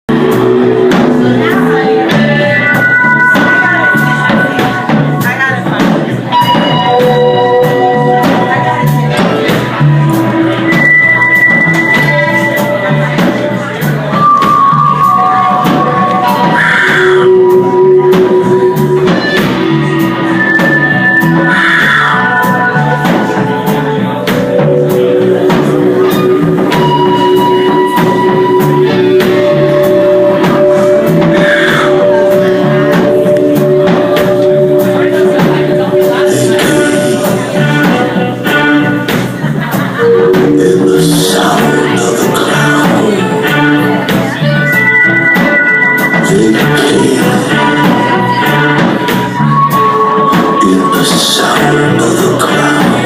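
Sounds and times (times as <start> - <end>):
band music: 0.0 - 53.0
bass line: 0.0 - 53.0
guitar with long held notes: 0.1 - 53.0
steady drum beat: 0.1 - 53.0.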